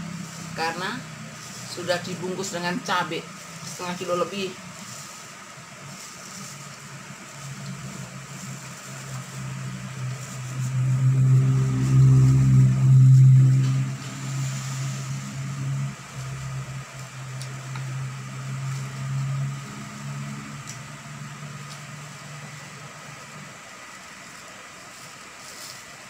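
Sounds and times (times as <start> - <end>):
low motor hum: 0.0 - 24.7.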